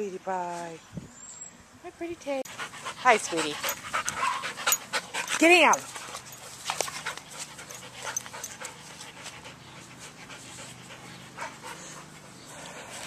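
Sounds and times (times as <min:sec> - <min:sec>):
dog panting: 0:02.5 - 0:13.0.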